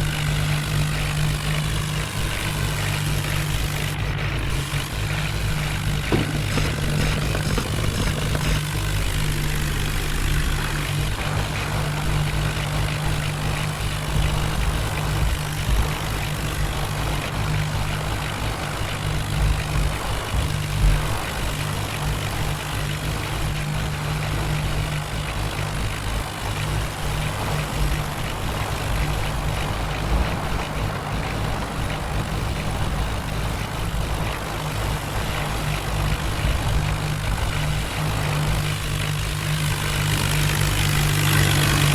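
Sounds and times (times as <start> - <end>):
diesel engine running at low revs: 0.0 - 41.9.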